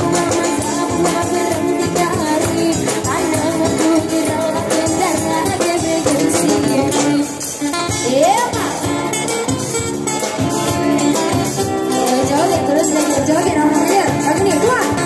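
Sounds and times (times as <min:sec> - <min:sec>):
woman singing: 0:00.0 - 0:09.0, 0:11.9 - 0:15.0
acoustic guitar: 0:00.0 - 0:15.0
drum kit beat: 0:00.0 - 0:15.0.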